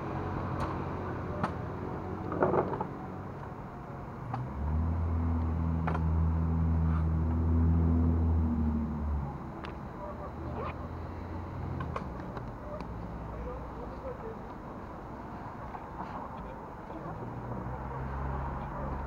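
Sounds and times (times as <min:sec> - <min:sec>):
low engine hum: 0:00.0 - 0:19.0
outdoor background noise: 0:00.0 - 0:19.0.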